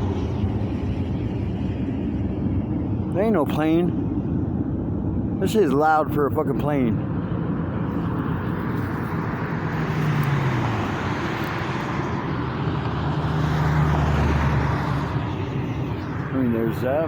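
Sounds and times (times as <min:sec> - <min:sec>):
low hum: 0:00.0 - 0:16.8
loud roaring rush overhead: 0:00.0 - 0:17.0.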